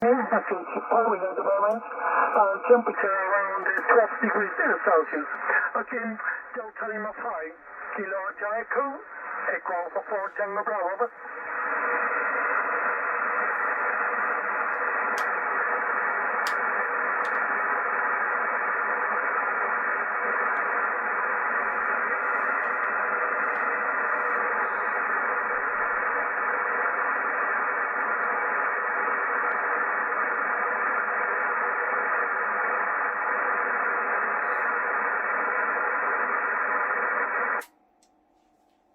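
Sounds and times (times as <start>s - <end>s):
radio static hiss: 0.0s - 37.7s.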